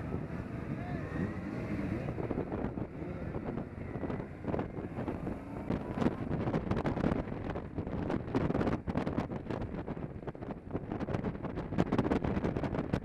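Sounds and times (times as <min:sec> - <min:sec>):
motorcycle engines running: 0:00.0 - 0:13.0
wind buffeting microphone: 0:00.0 - 0:13.0.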